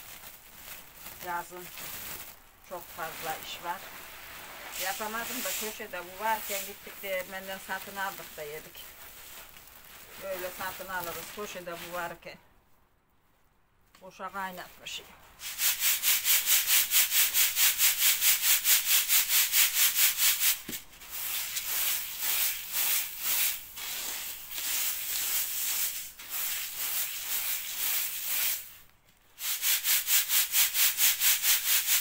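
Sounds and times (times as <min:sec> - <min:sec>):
grain swishing in a sieve: 0:00.0 - 0:12.2, 0:14.8 - 0:32.0
hand rustling through grain: 0:00.0 - 0:12.2, 0:15.3 - 0:18.6, 0:19.4 - 0:31.9.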